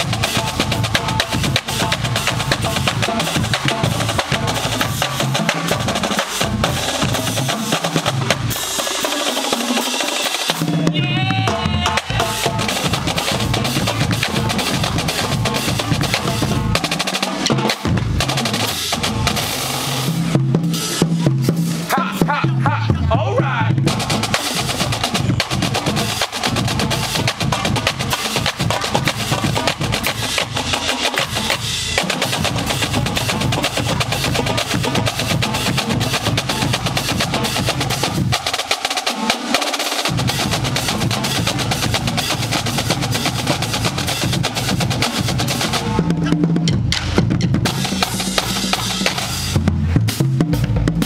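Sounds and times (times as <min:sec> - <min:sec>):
bass drums: 0:00.0 - 0:09.2, 0:10.6 - 0:38.8, 0:40.0 - 0:51.0
snare drums: 0:00.0 - 0:51.0
tenor drums: 0:00.0 - 0:51.0.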